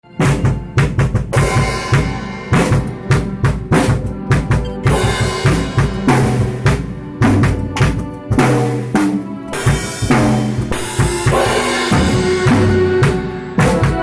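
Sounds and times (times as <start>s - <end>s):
drum kit playing: 0.1s - 14.0s.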